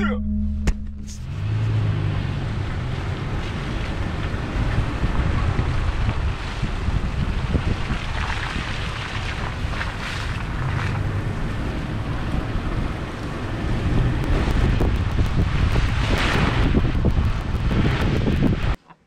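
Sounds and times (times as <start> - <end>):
wind buffeting microphone: 1.3 - 18.8
rain falling: 1.7 - 18.8.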